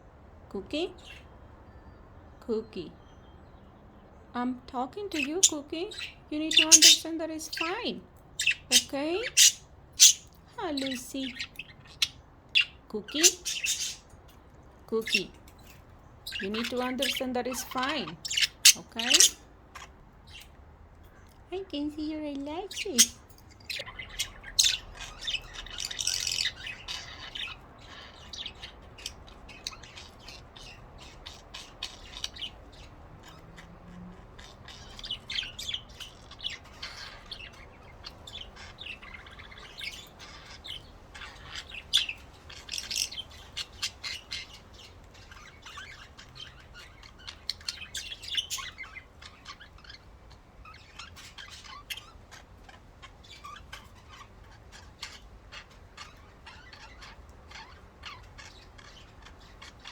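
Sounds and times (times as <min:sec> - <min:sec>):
budgerigars chirping: 0:05.1 - 0:14.4, 0:15.0 - 0:59.9.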